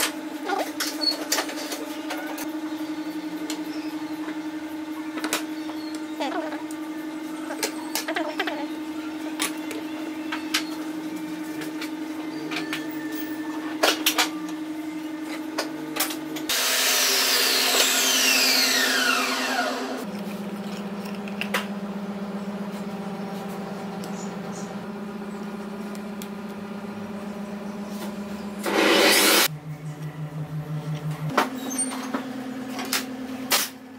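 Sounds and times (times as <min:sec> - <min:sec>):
machine hum: 0:00.0 - 0:33.9.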